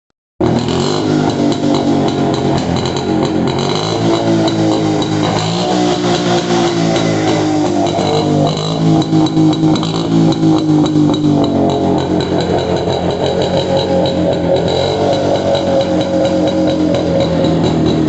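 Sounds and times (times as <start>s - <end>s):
two-stroke engine idling: 0.4s - 18.0s.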